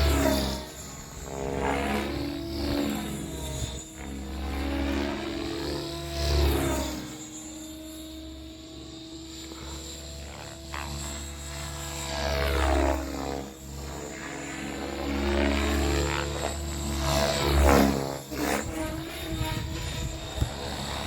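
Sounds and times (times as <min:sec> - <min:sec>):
helicopter rotor and motor whine: 0:00.0 - 0:21.0.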